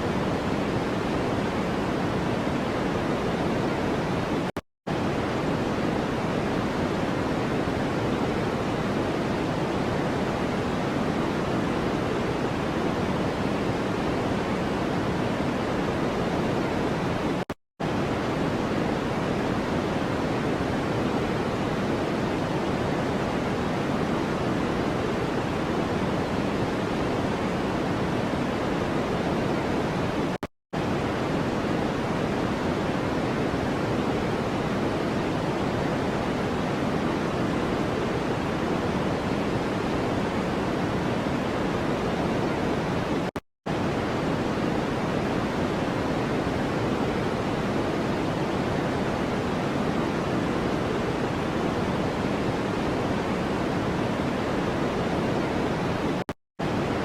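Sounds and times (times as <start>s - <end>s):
steady white noise: 0.0s - 57.0s.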